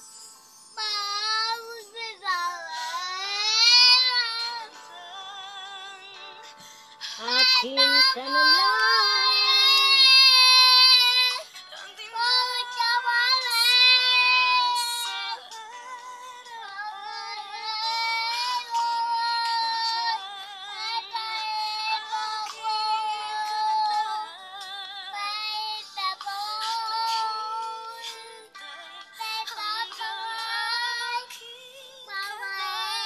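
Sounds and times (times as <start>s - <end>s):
boy singing in high voice: 0.8s - 4.7s, 7.0s - 33.0s.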